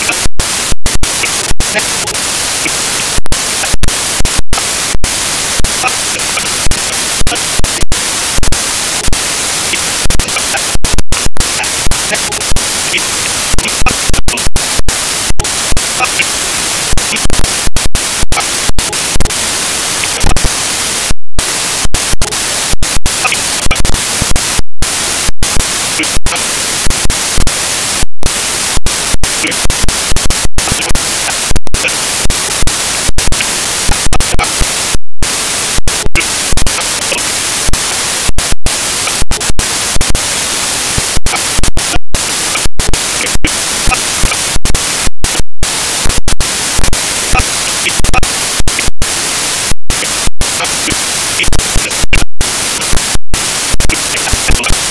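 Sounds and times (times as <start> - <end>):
loud static hiss: 0.0 - 54.9.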